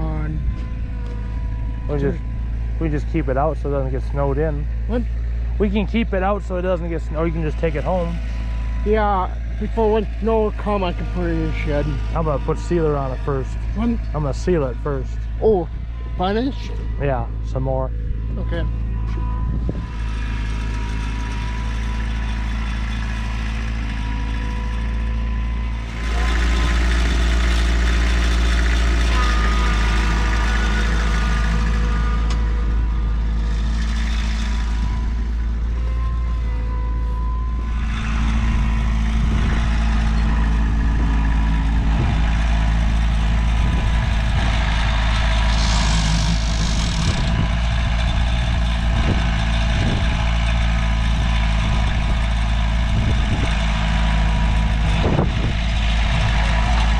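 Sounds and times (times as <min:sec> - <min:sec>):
vehicle engine humming: 0:00.0 - 0:56.9.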